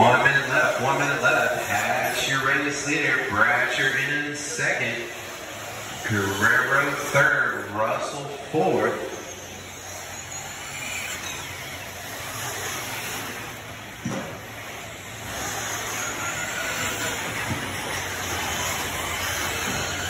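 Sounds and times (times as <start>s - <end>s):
rc car motors whining: 0.0s - 20.0s.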